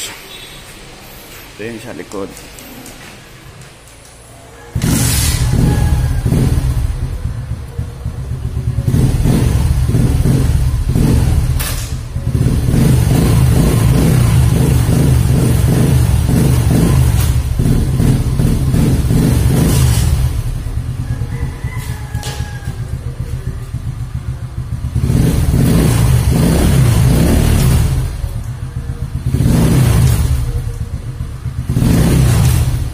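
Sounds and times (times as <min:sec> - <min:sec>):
motorcycle engine revving: 0:04.7 - 0:32.9.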